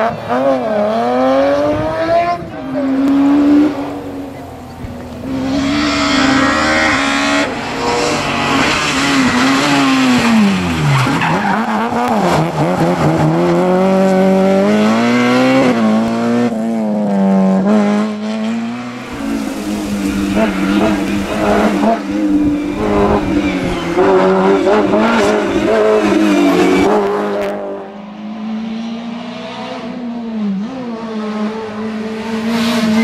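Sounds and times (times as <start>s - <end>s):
rally car engine revving: 0.0s - 33.0s.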